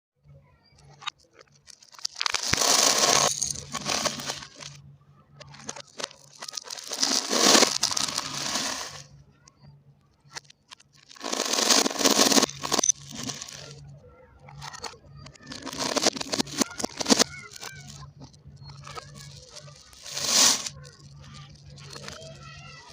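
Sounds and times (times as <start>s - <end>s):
scattered clicks: 0.7s - 4.8s, 5.4s - 13.8s, 14.4s - 22.9s
marbles rolling along a track: 0.8s - 9.2s, 10.3s - 22.9s.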